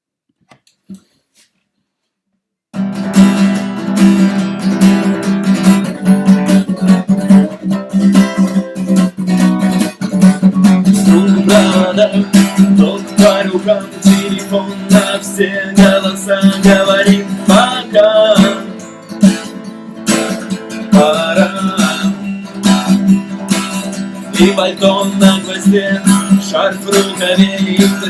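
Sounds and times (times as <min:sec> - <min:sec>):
acoustic guitar strumming: 0:02.8 - 0:28.0.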